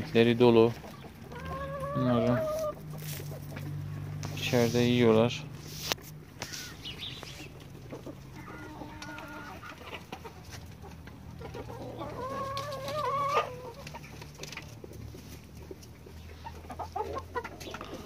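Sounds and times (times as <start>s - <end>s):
chickens calling: 0.0s - 18.0s.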